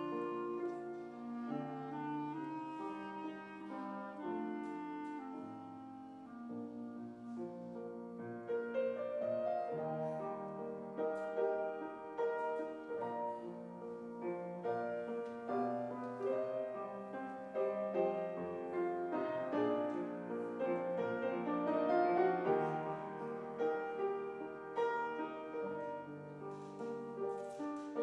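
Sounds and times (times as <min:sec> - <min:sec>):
clarinet melody: 0:00.0 - 0:28.0
piano accompaniment: 0:00.0 - 0:28.0.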